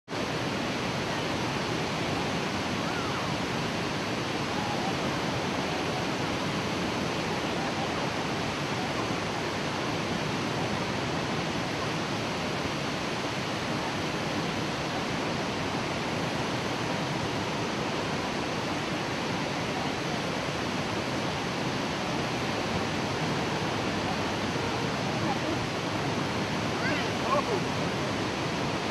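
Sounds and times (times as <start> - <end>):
waterfall roaring: 0.1 - 28.9.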